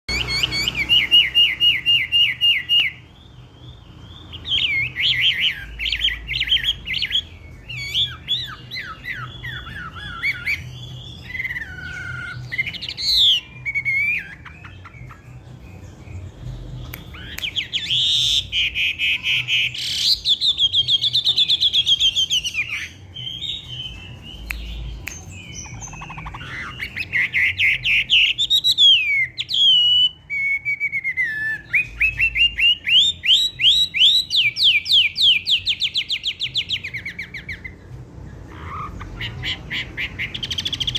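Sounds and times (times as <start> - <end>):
songbird chirping and whistling: 0.1 - 40.9.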